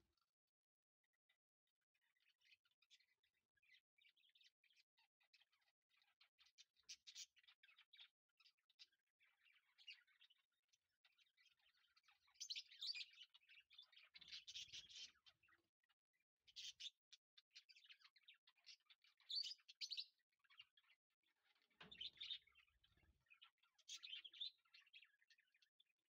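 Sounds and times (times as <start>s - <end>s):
faint high-pitched chirps: 1.3s - 26.0s.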